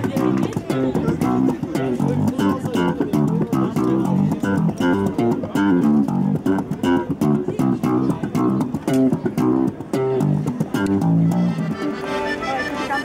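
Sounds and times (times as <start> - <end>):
bass line: 0.0 - 13.0
picked guitar notes: 0.0 - 13.0.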